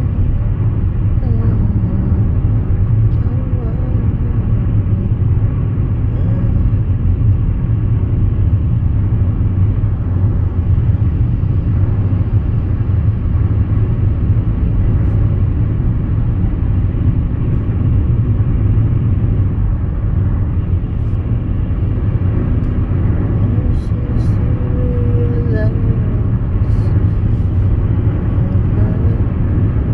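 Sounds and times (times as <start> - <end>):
car road rumble from inside: 0.0 - 29.9.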